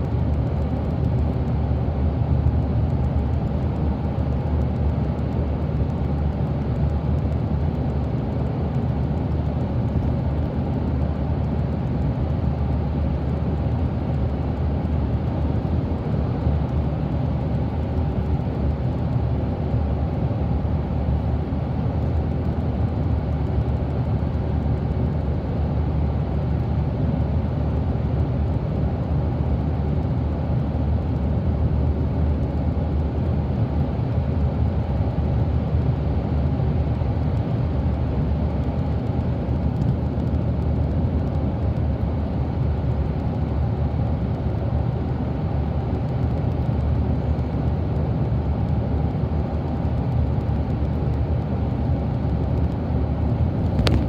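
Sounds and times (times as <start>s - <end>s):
bus engine and tyre drone: 0.0s - 54.0s.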